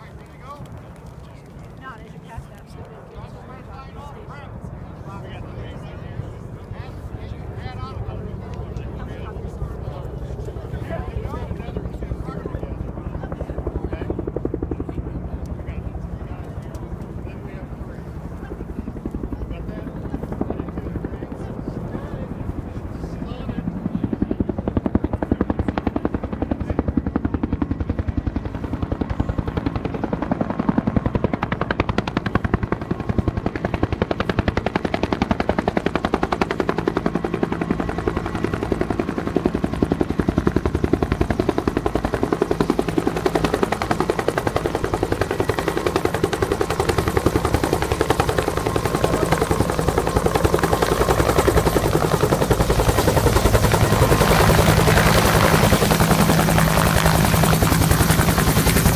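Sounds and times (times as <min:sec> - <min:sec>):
helicopter rotor and engine: 0:00.0 - 0:58.9.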